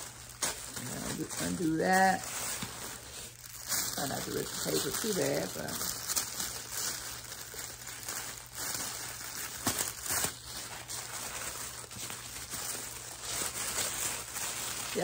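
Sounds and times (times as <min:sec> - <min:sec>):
wrapping paper rustling: 0:00.0 - 0:15.0.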